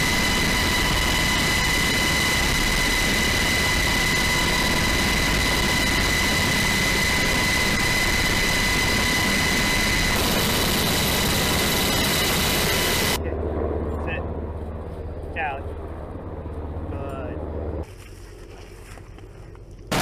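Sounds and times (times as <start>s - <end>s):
helicopter engine and rotor roar: 0.0s - 17.9s, 19.6s - 20.0s
high turbine whine: 0.0s - 20.0s.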